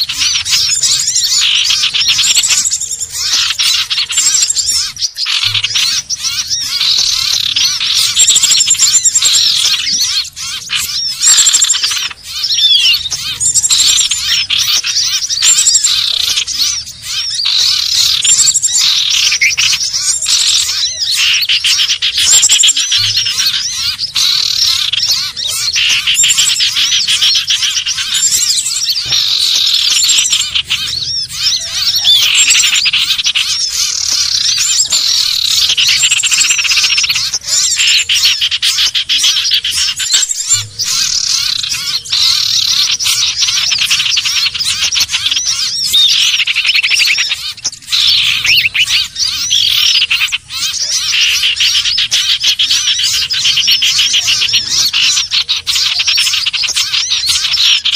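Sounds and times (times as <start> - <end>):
birds chirping and trilling: 0.0 - 57.9.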